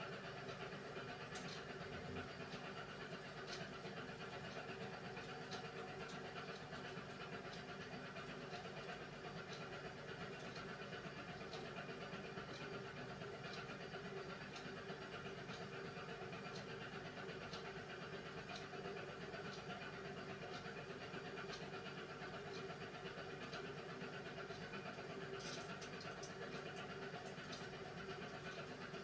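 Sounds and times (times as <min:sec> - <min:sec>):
washing machine humming: 0:01.6 - 0:29.0.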